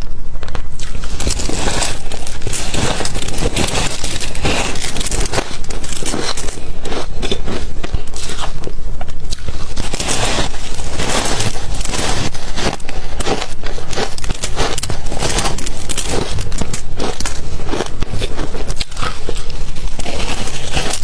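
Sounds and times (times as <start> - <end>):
ice crunching between teeth: 0.7 - 21.0.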